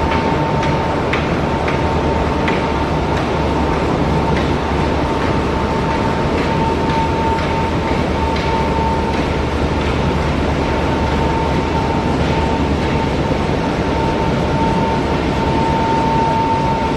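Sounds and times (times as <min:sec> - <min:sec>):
constant whine: 0:00.0 - 0:16.9
rotating drum rumbling: 0:00.0 - 0:16.9.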